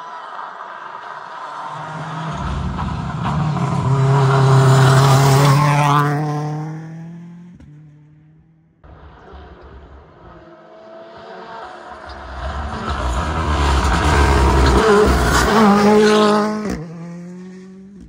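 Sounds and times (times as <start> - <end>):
rally car engine passing by: 1.4 - 8.2, 8.8 - 18.0.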